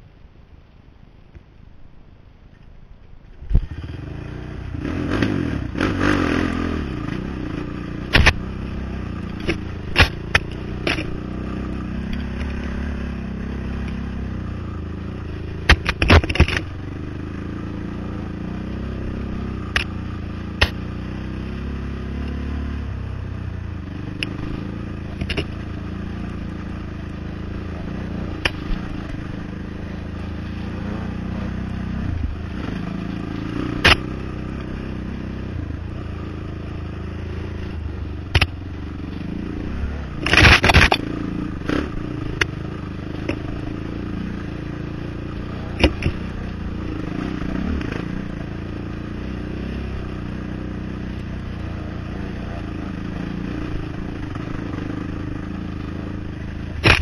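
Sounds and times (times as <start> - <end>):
atv engine revving: 3.5 - 57.0.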